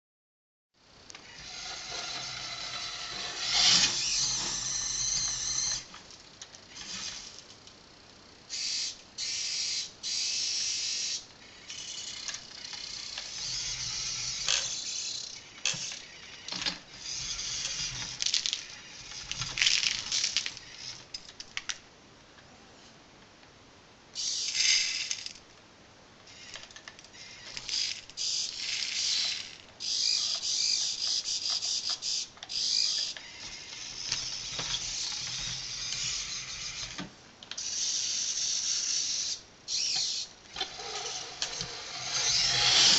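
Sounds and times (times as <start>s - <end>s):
toy tractor motor whirring: 1.2s - 6.0s, 6.7s - 7.4s, 8.5s - 21.3s, 24.2s - 25.4s, 26.3s - 42.9s.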